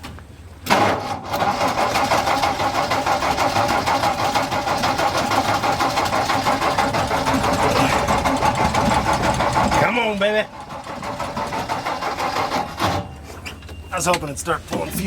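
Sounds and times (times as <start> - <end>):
engine cranking on starter: 0.6 - 13.2.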